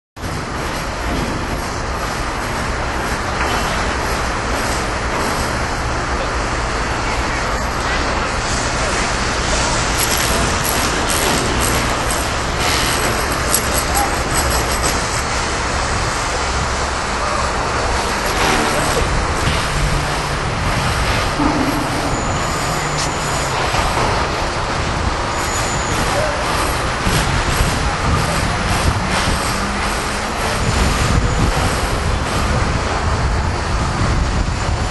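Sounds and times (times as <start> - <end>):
street traffic rumble: 0.2 - 34.9.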